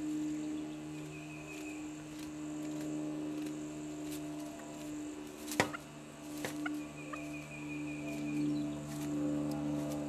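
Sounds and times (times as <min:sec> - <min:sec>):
low drone music: 0:00.0 - 0:10.0.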